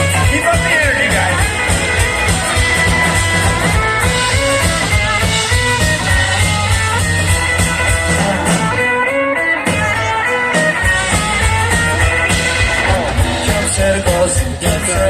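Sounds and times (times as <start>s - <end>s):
electric guitar lead: 0.0s - 15.0s
live rock band playing: 0.0s - 15.0s.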